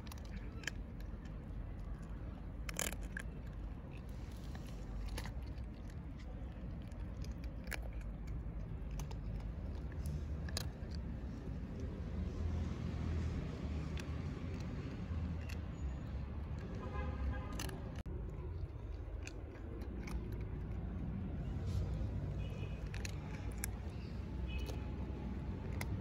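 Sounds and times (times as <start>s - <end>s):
cat crunching dry kibble: 0.0s - 26.0s.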